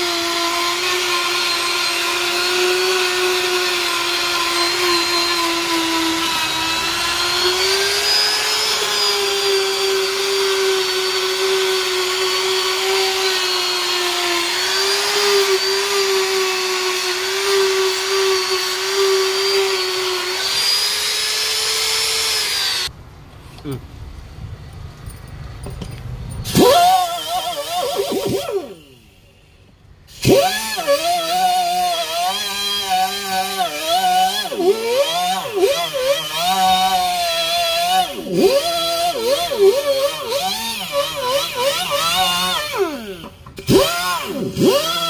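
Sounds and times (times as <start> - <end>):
rotary buffer whining on rubber: 0.0 - 22.9, 25.7 - 29.4, 30.1 - 45.0.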